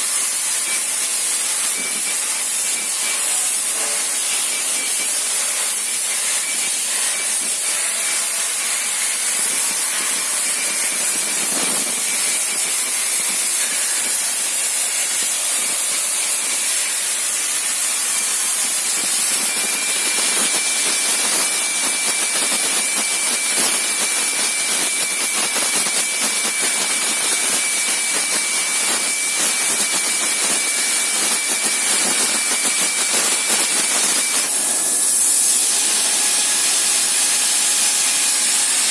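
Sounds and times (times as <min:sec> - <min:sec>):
plasma cutter hissing: 0:00.0 - 0:38.9
thin high whine: 0:00.0 - 0:38.9.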